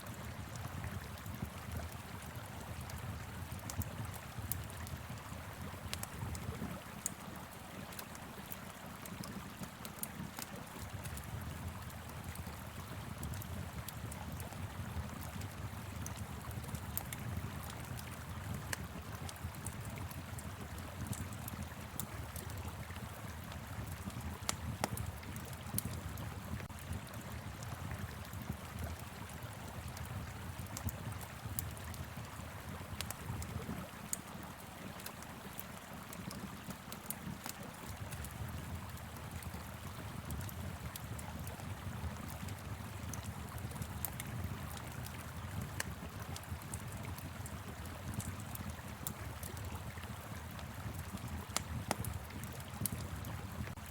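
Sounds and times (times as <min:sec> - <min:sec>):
wood fire crackling and popping: 0:00.2 - 0:53.9.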